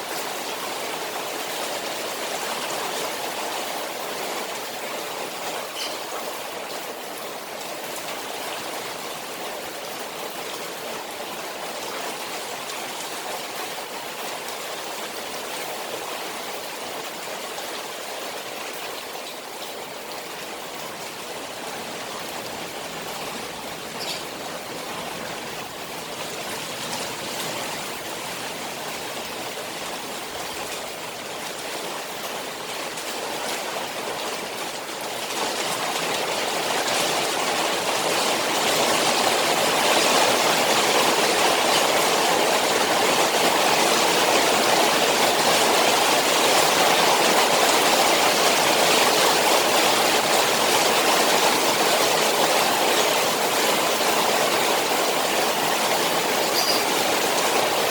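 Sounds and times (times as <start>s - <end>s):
rain falling on a pond: 0.0s - 57.9s.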